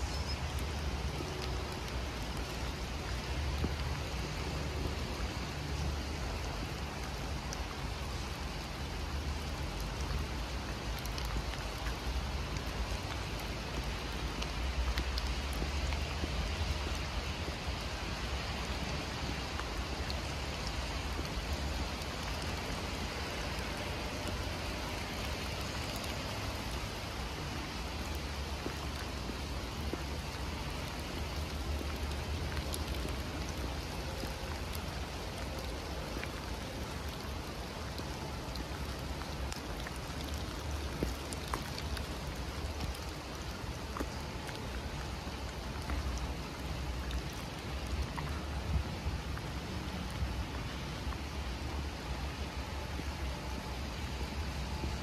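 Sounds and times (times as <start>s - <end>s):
heavy rain in forest: 0.0s - 55.0s
water drip ticks: 0.0s - 55.0s.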